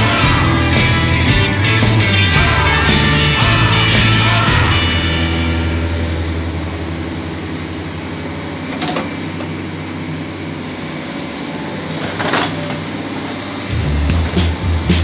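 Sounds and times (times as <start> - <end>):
excavator running: 0.0 - 15.0.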